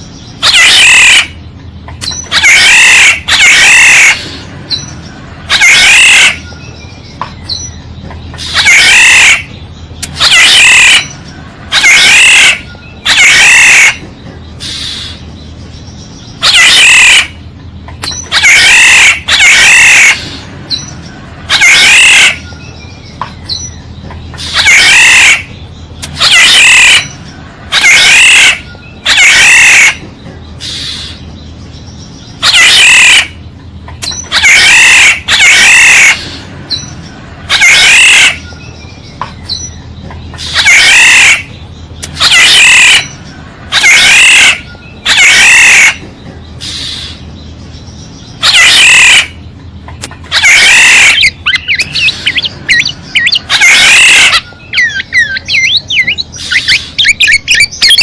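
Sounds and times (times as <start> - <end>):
faint bird twittering: 0.0 - 58.0
harsh squawking bird calls: 0.0 - 58.0.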